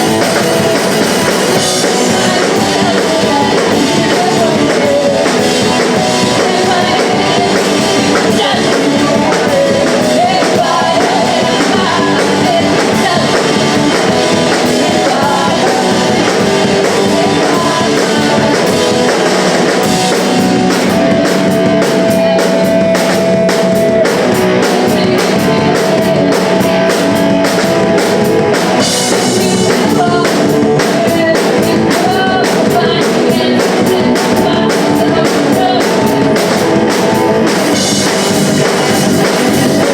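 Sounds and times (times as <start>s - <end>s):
drum kit: 0.0s - 39.9s
electric guitar: 0.0s - 39.9s
person singing: 0.0s - 39.9s.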